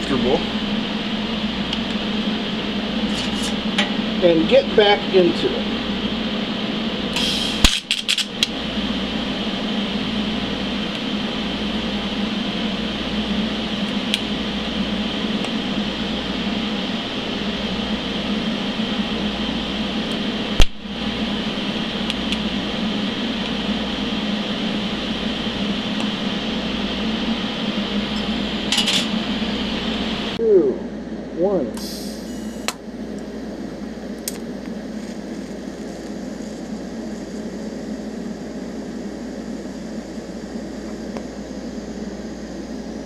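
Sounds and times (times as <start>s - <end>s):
welder humming and hissing: 0.0s - 43.0s.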